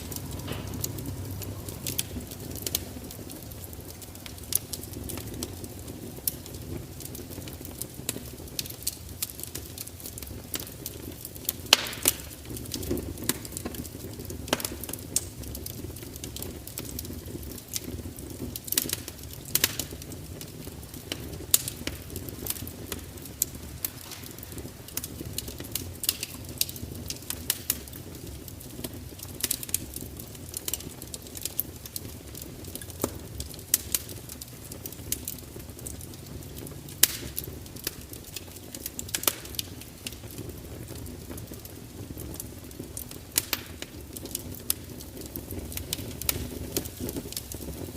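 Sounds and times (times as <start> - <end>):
low rumble of burning: 0.0 - 47.9
wood fire crackling: 0.0 - 47.9.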